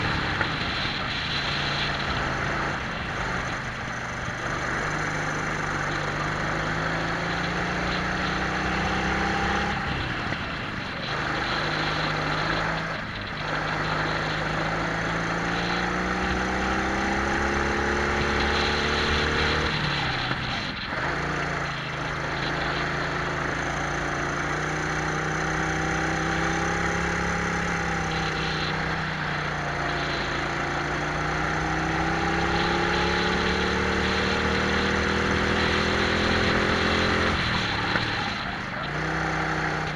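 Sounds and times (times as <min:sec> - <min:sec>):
kart engines at racing speed: 0:00.0 - 0:39.9.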